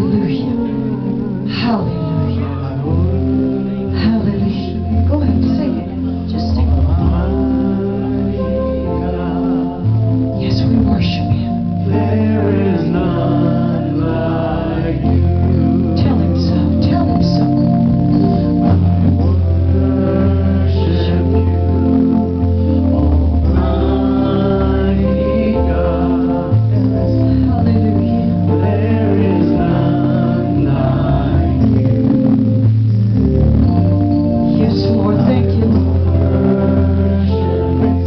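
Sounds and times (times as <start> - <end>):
organ chords: 0.0 - 38.0
voices singing gospel: 0.0 - 38.0.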